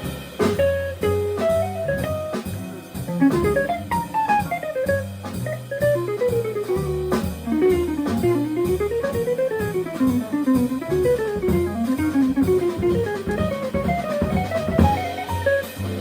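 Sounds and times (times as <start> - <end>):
drums: 0.0 - 16.0
piano: 0.0 - 16.0
walking upright bass: 0.0 - 16.0.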